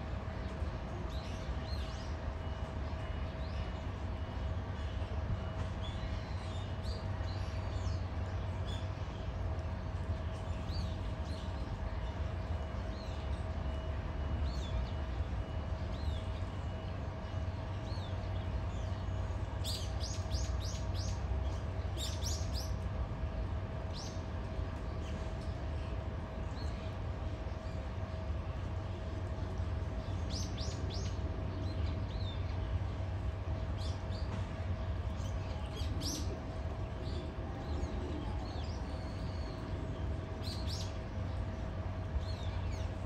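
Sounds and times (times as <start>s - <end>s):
faint steady hum: 0.0s - 43.0s
low background rumble: 0.0s - 43.0s.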